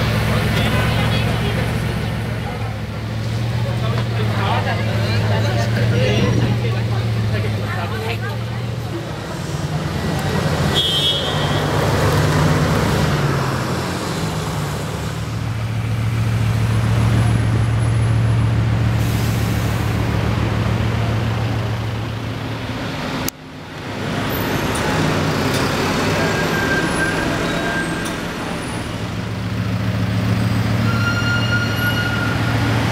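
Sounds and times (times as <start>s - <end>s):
street traffic: 0.0s - 32.9s.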